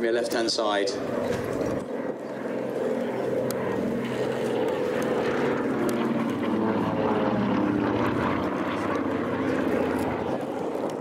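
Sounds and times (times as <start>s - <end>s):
propeller plane droning past: 0.0s - 11.0s.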